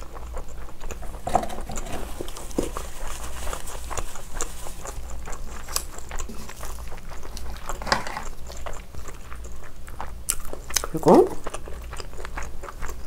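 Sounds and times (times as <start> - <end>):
wet chewing mouth sounds: 0.0 - 13.0.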